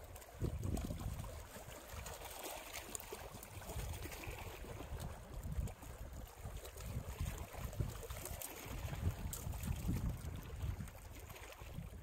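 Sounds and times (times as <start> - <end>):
wind buffeting microphone: 0.0 - 1.6, 3.2 - 12.0
river water lapping on rocks: 0.0 - 12.0.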